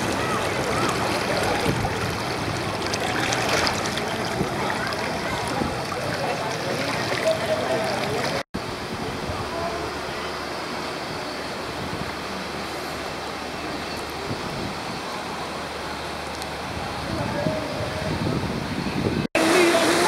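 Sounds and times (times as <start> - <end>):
faint distant voices: 0.0 - 20.0
floodwater rushing and sloshing: 0.0 - 20.0.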